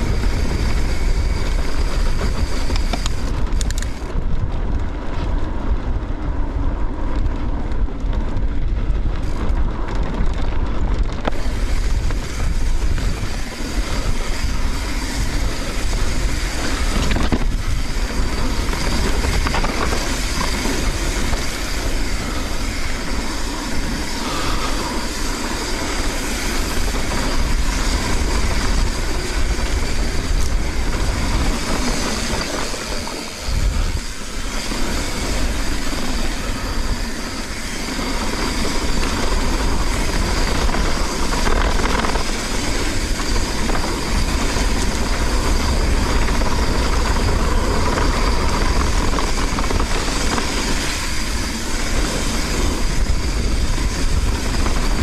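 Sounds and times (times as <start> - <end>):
bike chain and frame rattling: 0.0 - 55.0
bike tyres on dirt and rocks: 0.0 - 55.0.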